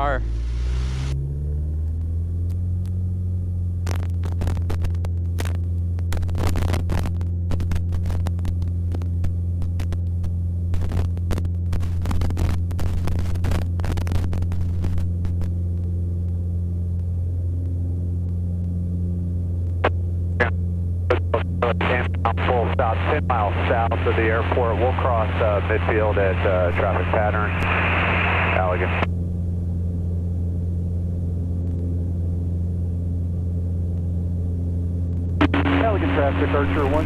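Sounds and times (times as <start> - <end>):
airplane engine and propeller droning: 0.0 - 37.0.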